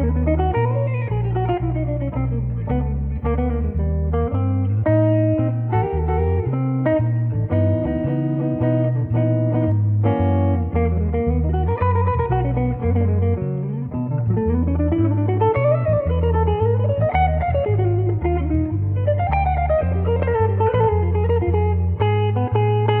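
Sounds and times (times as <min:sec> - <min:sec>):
plucked guitar melody: 0:00.0 - 0:23.0
repeating bass line: 0:00.0 - 0:23.0.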